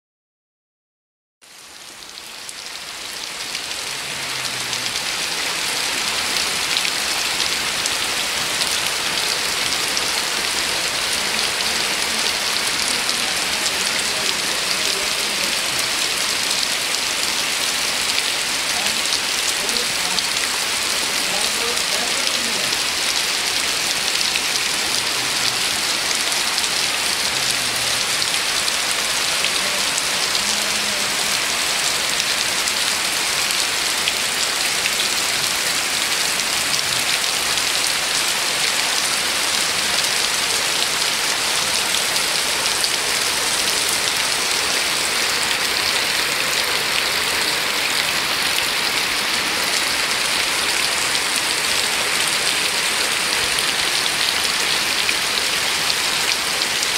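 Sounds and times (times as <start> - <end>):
steady rain falling: 1.4 - 56.9.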